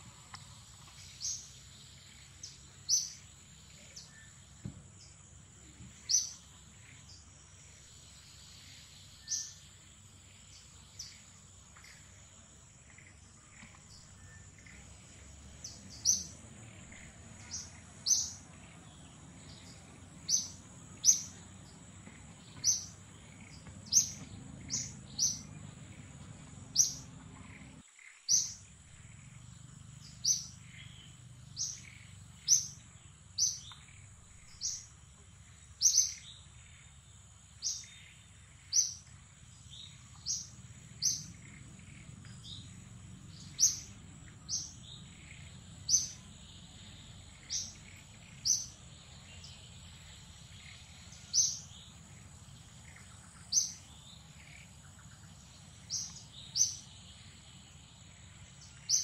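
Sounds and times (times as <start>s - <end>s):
bird chirping: 0.0s - 59.0s.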